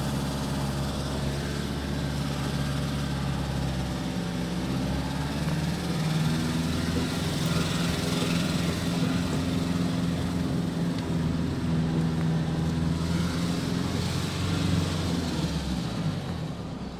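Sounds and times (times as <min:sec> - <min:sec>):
diesel engine running at low revs: 0:00.0 - 0:16.9.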